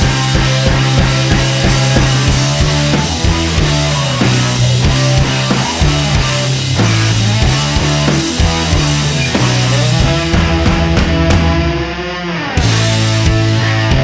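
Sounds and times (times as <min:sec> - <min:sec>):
drum-kit beat: 0:00.0 - 0:12.0, 0:12.6 - 0:14.0
held bass line: 0:00.0 - 0:12.0, 0:12.6 - 0:14.0
rock music: 0:00.0 - 0:14.0.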